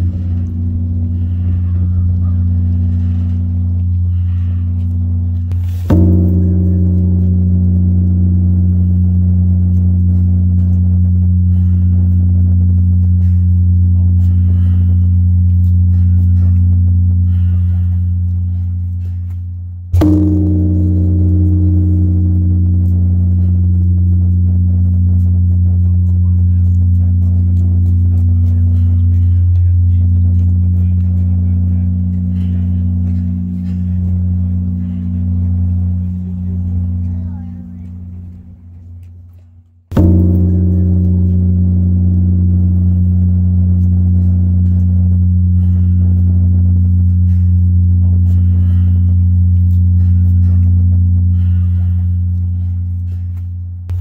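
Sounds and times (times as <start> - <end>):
large temple bell ringing: 0.0 - 18.3, 20.0 - 38.7, 39.9 - 52.9.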